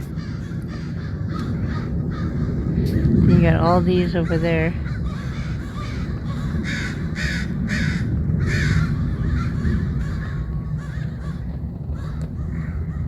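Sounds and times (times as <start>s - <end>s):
crows cawing: 0.0s - 13.0s
steady low rumble: 0.0s - 13.0s.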